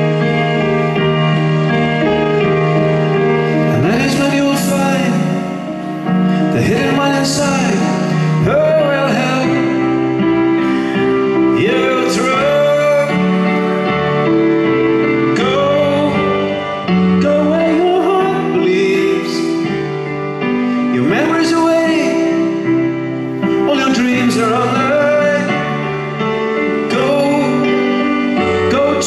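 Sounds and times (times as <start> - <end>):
gliding melody line: 0.0 - 29.0
held keyboard chords: 0.0 - 29.0.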